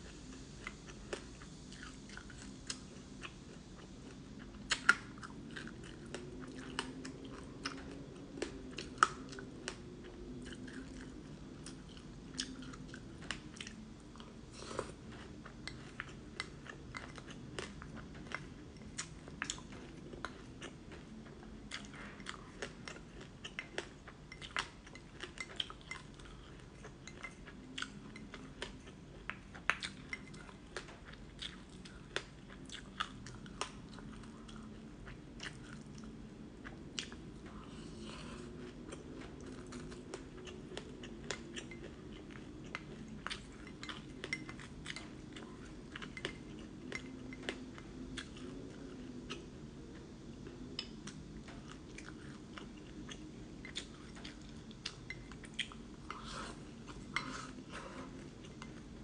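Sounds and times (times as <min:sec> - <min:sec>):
chewing and crunching seeds: 0:00.0 - 0:59.0.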